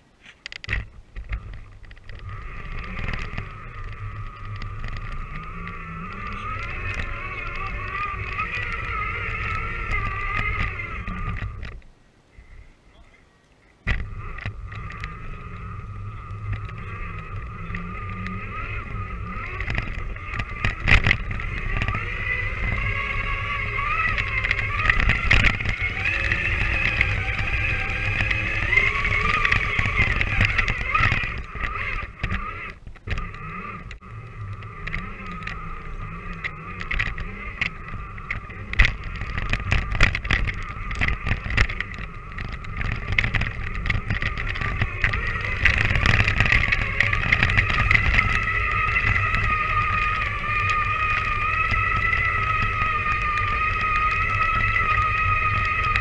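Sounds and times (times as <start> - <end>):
low rumble: 0.6 - 12.7, 13.8 - 56.0
toy truck electric motor whining: 1.3 - 11.8, 13.9 - 56.0.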